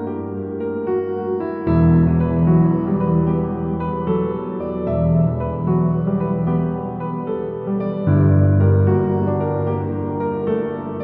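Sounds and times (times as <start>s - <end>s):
soft sad piano music: 0.0s - 11.0s.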